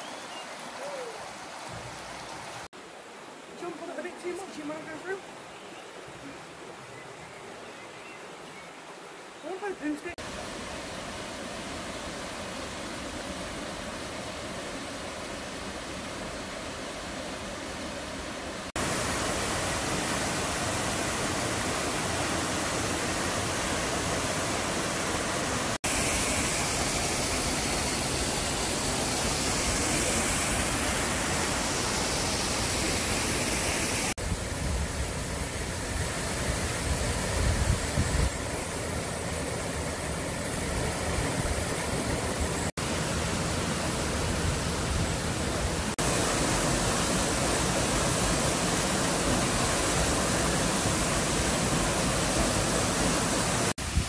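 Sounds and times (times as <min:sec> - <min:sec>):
waterfall rushing: 0:00.0 - 0:06.8, 0:08.9 - 0:54.0.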